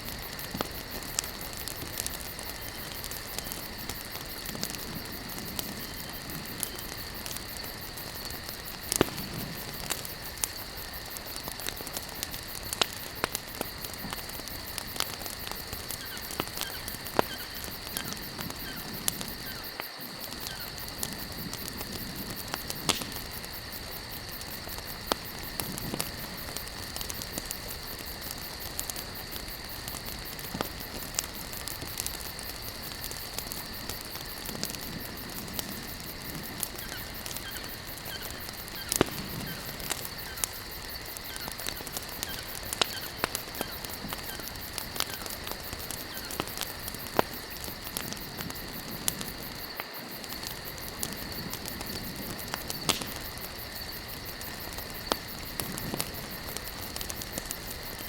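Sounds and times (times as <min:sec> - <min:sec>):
campfire crackling and popping: 0:00.0 - 0:58.0
insect trill: 0:00.0 - 0:58.0.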